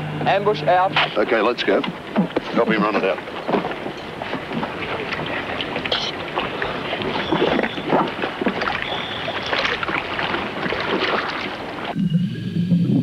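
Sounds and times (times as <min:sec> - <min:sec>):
water splashing against boat: 0:00.2 - 0:12.0.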